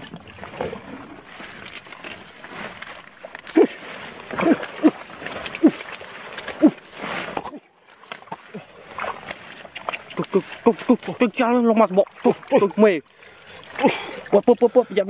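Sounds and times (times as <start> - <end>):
stems rustling in wet mud: 0.0 - 15.0.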